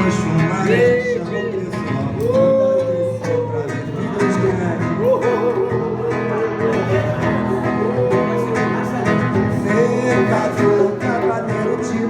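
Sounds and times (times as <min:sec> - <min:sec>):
acoustic guitar playing: 0:00.0 - 0:12.0
person singing long notes: 0:00.0 - 0:12.0.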